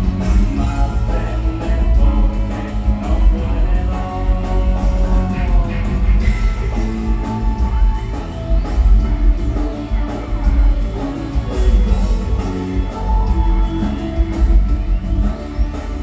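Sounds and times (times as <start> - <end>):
rock music over speakers: 0.0 - 16.0.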